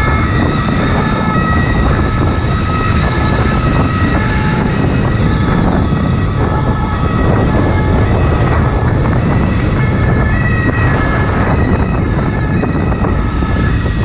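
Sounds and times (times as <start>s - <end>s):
motorcycle engine at speed: 0.0s - 14.0s
two-tone ambulance siren: 0.0s - 14.0s
wind rushing on microphone: 0.0s - 14.0s.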